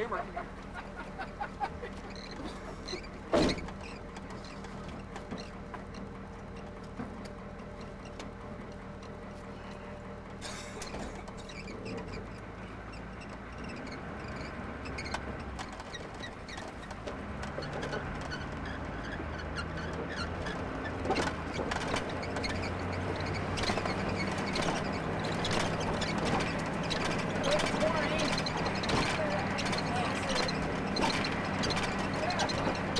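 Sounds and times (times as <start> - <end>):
vehicle engine accelerating: 0.0 - 32.9
rattling clicks and knocks: 0.6 - 9.4, 10.2 - 32.9.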